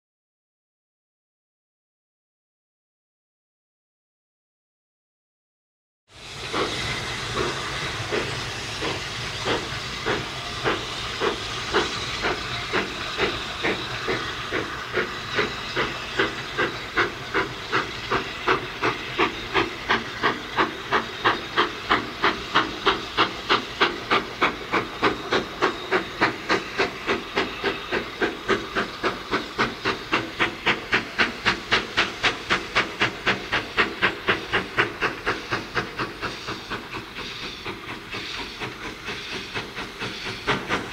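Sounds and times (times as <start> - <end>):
steam hissing: 6.1 - 40.9
steam locomotive exhaust beats: 6.1 - 40.9.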